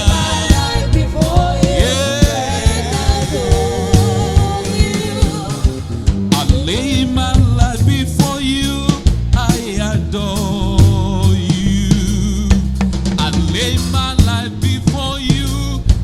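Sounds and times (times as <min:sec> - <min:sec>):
drum beat: 0:00.0 - 0:16.0
gospel band music: 0:00.0 - 0:16.0.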